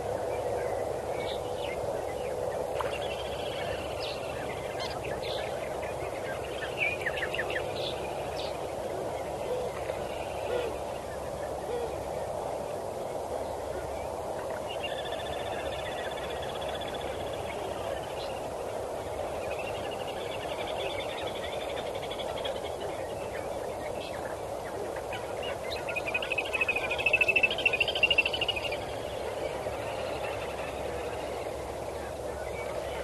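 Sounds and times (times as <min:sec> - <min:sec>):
low rushing background noise: 0:00.0 - 0:33.0.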